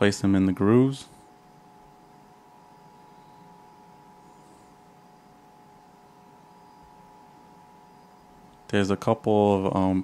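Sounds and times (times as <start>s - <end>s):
faint high hum: 0.0s - 10.0s.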